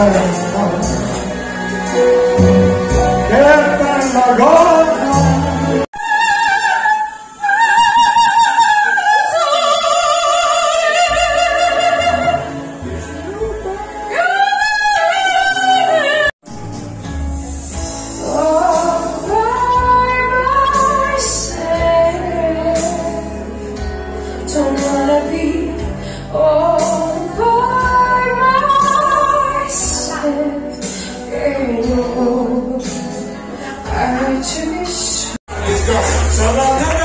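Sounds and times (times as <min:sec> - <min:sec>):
amplified backing track: 0:00.0 - 0:06.0, 0:10.6 - 0:37.0
woman singing into microphone: 0:03.2 - 0:16.3, 0:18.1 - 0:35.4.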